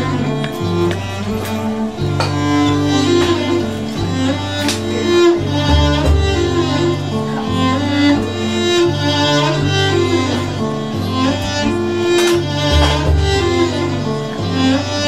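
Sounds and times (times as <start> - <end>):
cello long low notes: 0.0 - 15.0
higher bowed string melody: 0.0 - 15.0.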